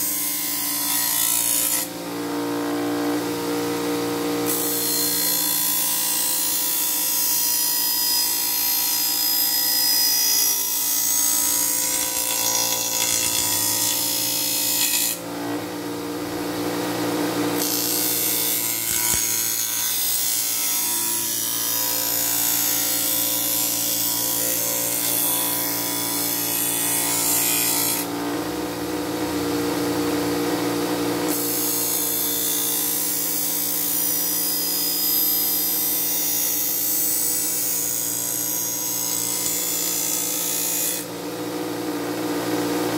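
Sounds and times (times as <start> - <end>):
bench grinder motor humming: 0.0 - 42.9.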